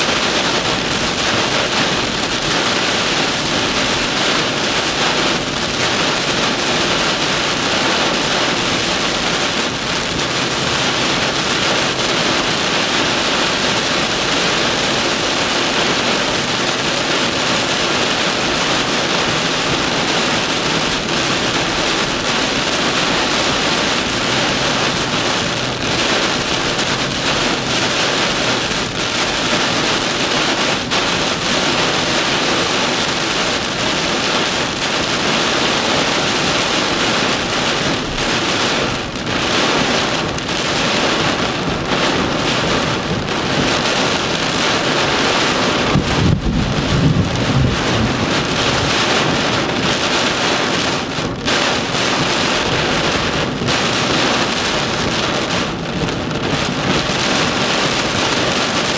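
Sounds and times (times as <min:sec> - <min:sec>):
heavy rain on car roof: 0:00.0 - 0:58.9.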